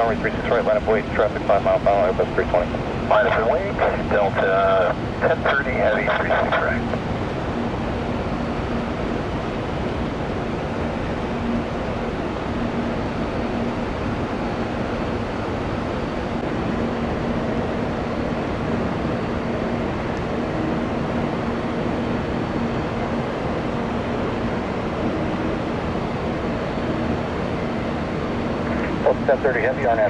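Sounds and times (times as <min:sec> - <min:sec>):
jet airliner engines running: 0:00.0 - 0:30.0.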